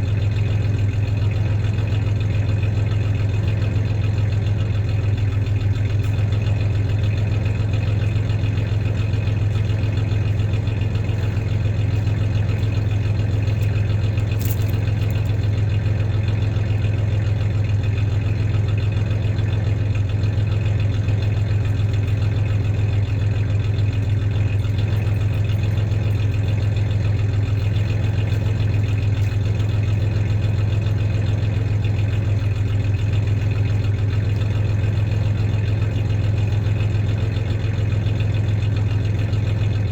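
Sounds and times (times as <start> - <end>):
truck engine idling with misfire: 0.0 - 39.9.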